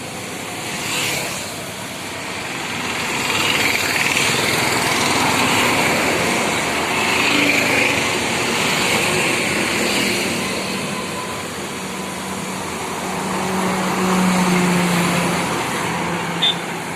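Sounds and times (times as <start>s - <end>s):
vehicles driving past: 0.0s - 16.9s.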